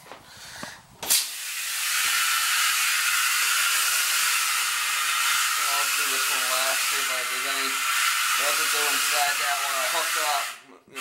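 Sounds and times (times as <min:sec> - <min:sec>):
water and air rushing from faucet: 0:01.0 - 0:11.0.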